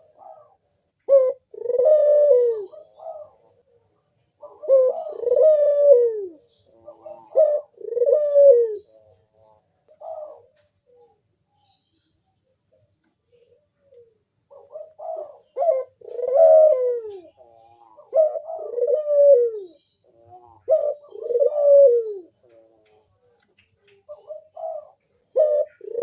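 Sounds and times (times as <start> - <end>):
dove cooing: 0.0 - 11.7, 13.2 - 26.0.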